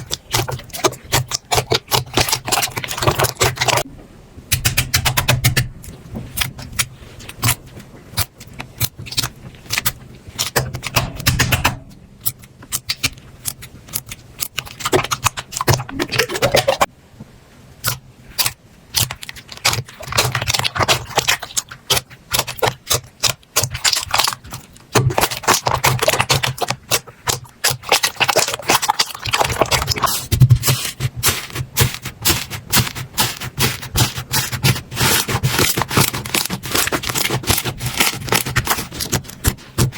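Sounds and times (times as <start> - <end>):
slime clicking and squelching: 0.0 - 3.9, 4.5 - 16.9, 17.8 - 39.9.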